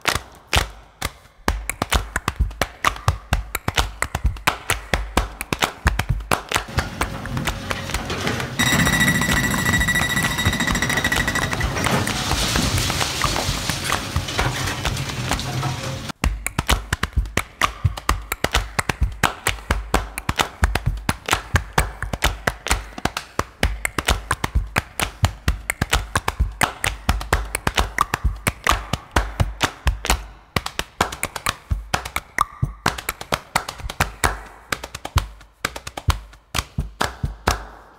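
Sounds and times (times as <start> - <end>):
fast percussive music: 0.6 - 8.0, 8.6 - 37.6.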